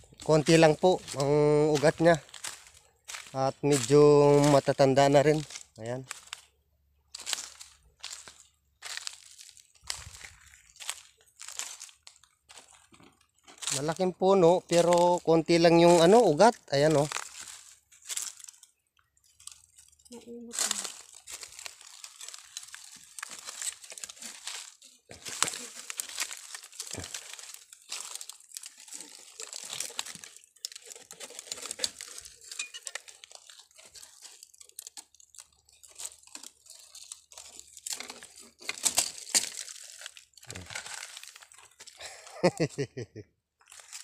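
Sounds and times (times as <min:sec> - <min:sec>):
tree roots rustling and snapping: 0:00.2 - 0:06.5, 0:07.1 - 0:14.0, 0:14.7 - 0:42.0, 0:43.6 - 0:44.0.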